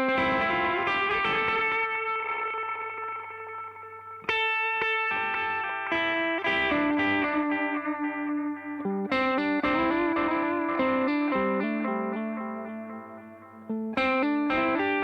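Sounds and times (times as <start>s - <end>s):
electric guitar with reverb: 0.0s - 15.0s.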